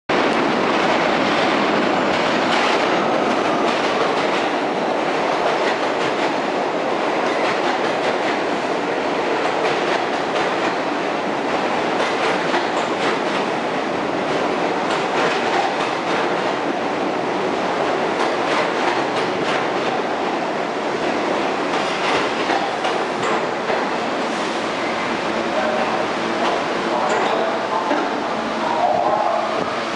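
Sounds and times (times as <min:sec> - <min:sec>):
subway train wheels rumbling: 0:00.1 - 0:29.9.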